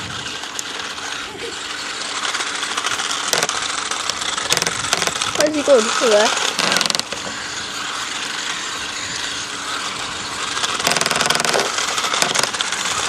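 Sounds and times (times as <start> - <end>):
electric motor whirring: 0.0 - 13.0
fast clicking and rattling: 0.0 - 13.0.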